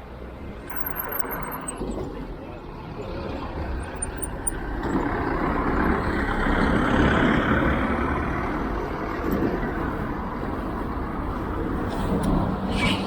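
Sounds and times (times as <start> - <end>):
road vehicle passing by: 0.1 - 13.0.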